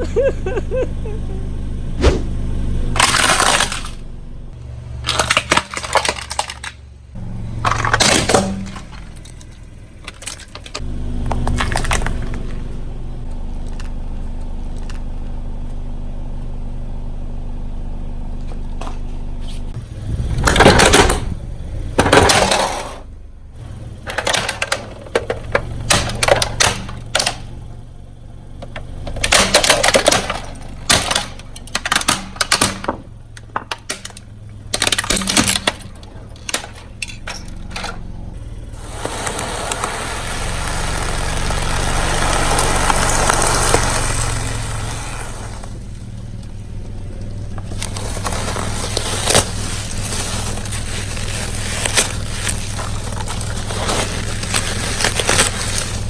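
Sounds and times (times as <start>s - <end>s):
tyre crushing crunchy objects: 0.0s - 15.3s, 18.4s - 56.0s
low engine hum: 0.0s - 56.0s.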